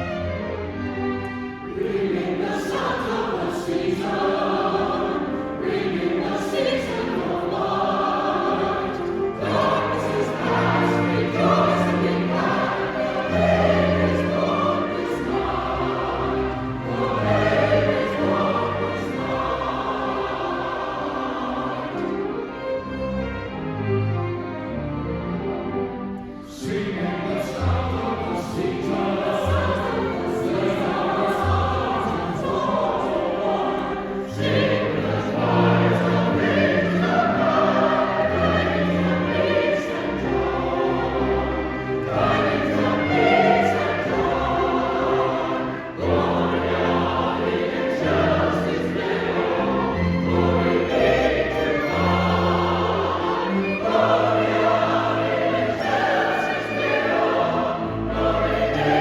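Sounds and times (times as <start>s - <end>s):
choir singing in harmony: 0.0s - 59.0s
string ensemble: 0.0s - 59.0s.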